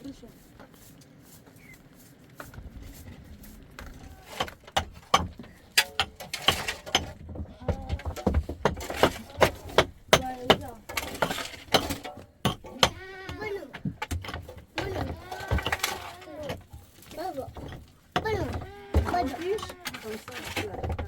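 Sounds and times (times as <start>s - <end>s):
sharp knocks and clatter: 3.7s - 21.0s.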